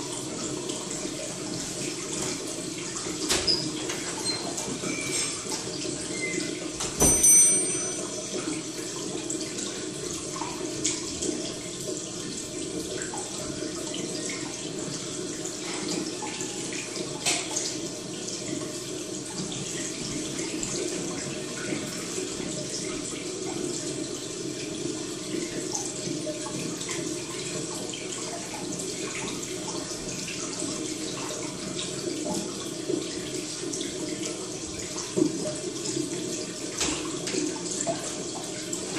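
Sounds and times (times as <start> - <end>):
running water trickling: 0.0 - 38.9.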